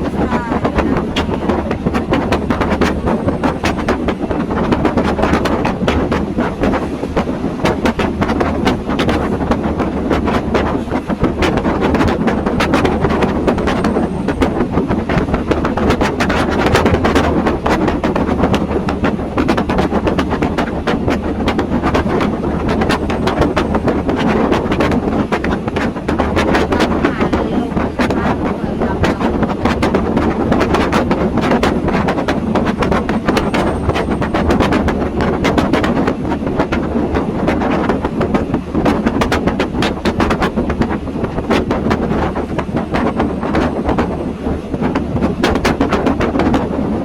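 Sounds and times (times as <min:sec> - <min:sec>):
train rumbling on tracks: 0:00.0 - 0:47.0
wind noise: 0:00.0 - 0:47.0.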